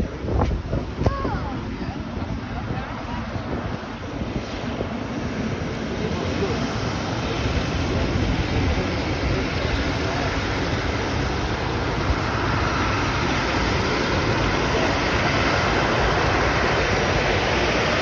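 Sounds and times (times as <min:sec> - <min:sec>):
jet engines running: 0:00.0 - 0:18.0
wind buffeting microphone: 0:00.0 - 0:18.0.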